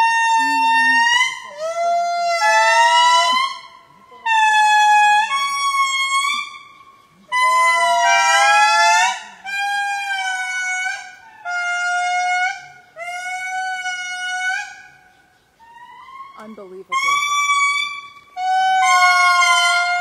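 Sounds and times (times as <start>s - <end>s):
lemur calls: 0.0s - 20.0s.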